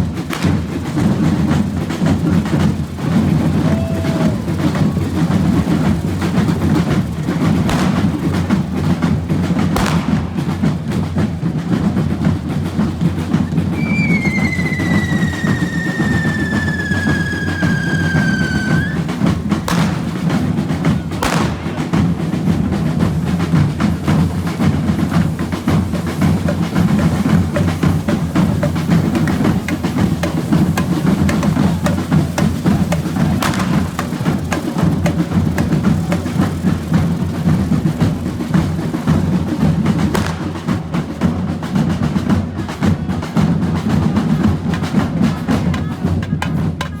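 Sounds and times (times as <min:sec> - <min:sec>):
firework bangs: 0:00.0 - 0:42.3
drum band playing fast rhythm: 0:00.0 - 0:47.0.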